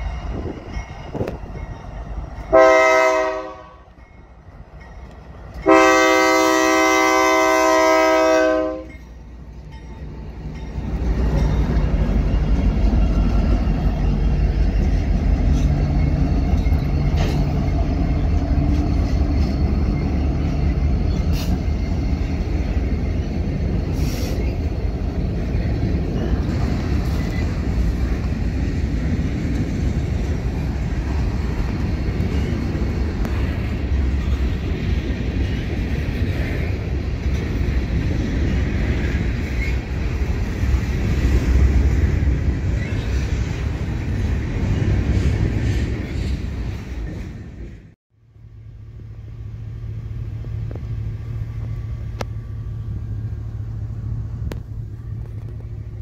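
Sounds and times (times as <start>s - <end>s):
diesel locomotive engines rumbling: 0.0s - 56.0s
freight cars rolling on rails: 0.0s - 56.0s.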